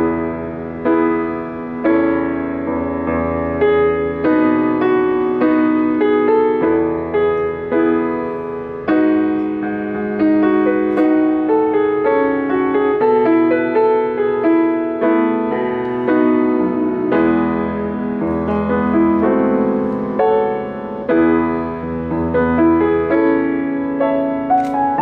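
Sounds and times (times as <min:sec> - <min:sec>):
solo grand piano: 0:00.0 - 0:25.0.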